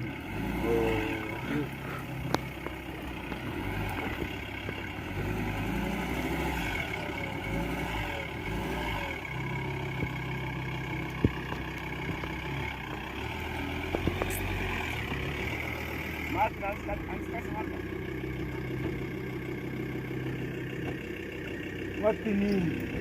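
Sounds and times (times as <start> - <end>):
diesel engine driving: 0.0 - 23.0.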